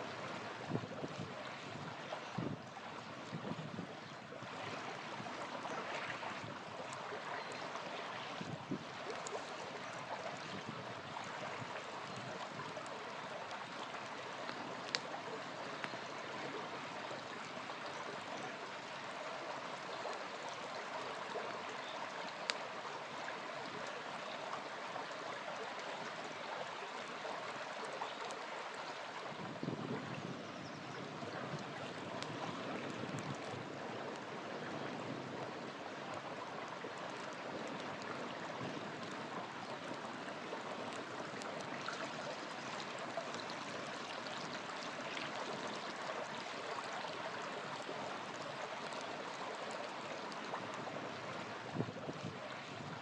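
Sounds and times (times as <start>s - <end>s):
small river flowing: 0.0s - 53.0s
campfire crackling: 4.0s - 29.6s, 31.0s - 52.8s.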